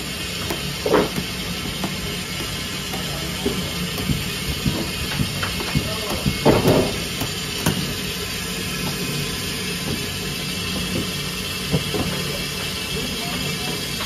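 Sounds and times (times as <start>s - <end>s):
machinery hiss and low hum: 0.0s - 14.0s.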